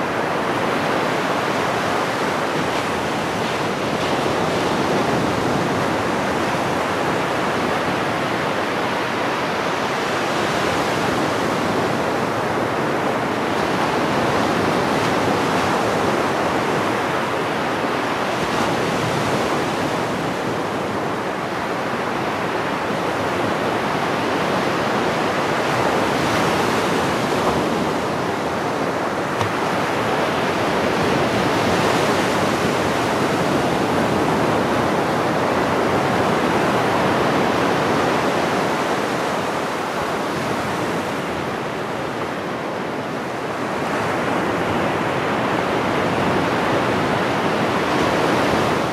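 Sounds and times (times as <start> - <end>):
ocean surf breaking on beach: 0.0 - 48.9.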